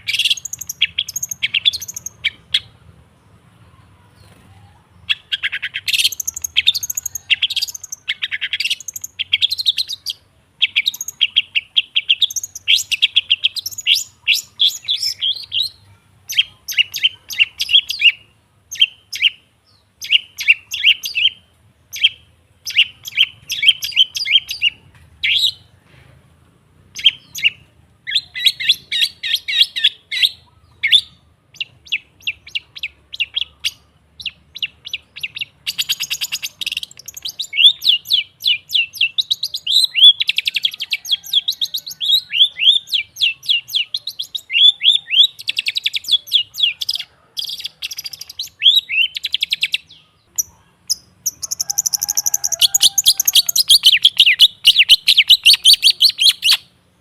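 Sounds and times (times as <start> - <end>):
shrike chattering song: 0.0 - 4.4, 5.0 - 25.7, 26.9 - 56.8.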